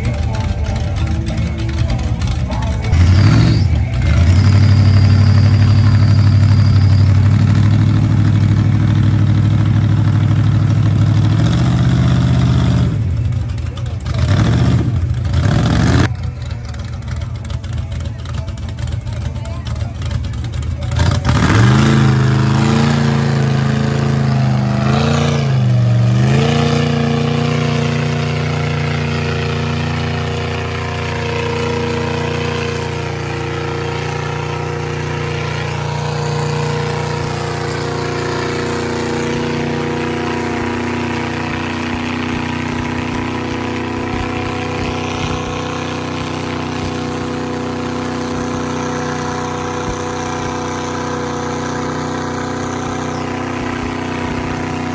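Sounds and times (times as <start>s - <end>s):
tires pushing through mud: 0.0s - 54.9s
truck engine revving: 0.0s - 54.9s.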